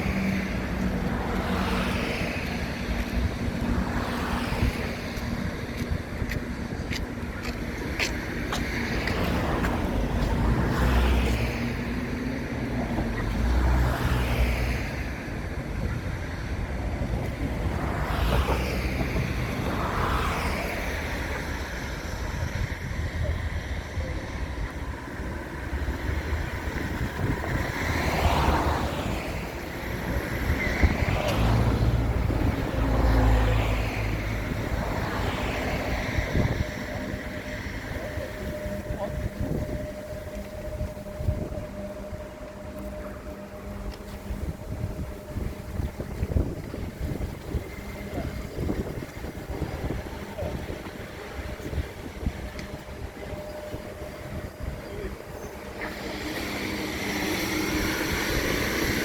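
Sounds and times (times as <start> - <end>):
low traffic rumble: 0.0 - 59.0
vehicles passing: 0.0 - 59.0.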